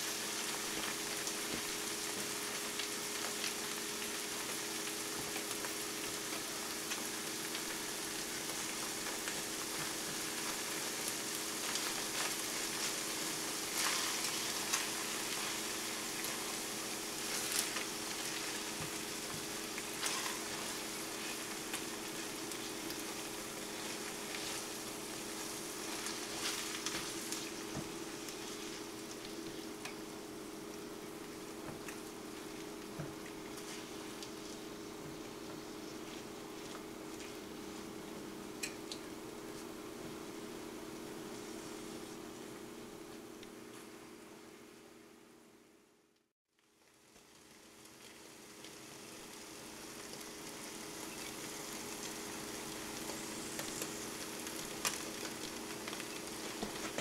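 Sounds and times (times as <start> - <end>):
eggs sizzling in a skillet: 0.0 - 37.3, 46.6 - 57.0.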